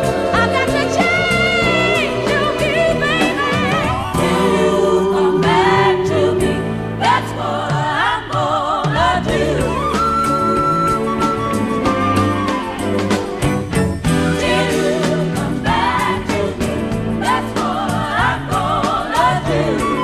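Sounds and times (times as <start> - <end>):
gospel singing over sustained chords: 0.0 - 13.5, 14.1 - 20.0.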